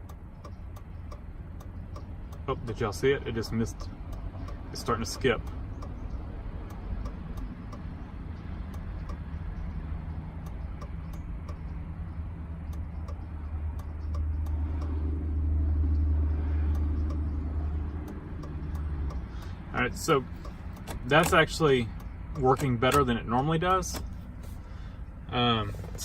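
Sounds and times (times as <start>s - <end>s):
car engine idling: 0.0s - 26.0s
turn-signal flasher ticking: 0.0s - 26.0s.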